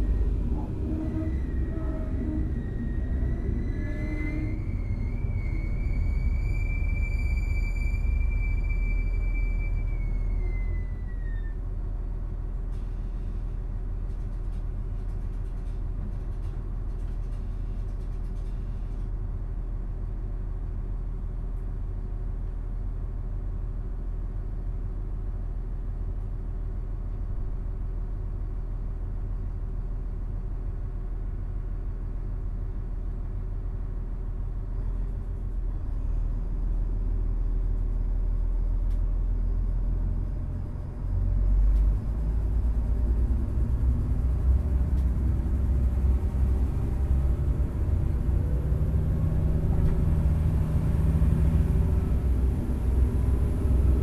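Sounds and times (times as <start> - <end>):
diesel railcar engine idling: 0.0 - 54.0.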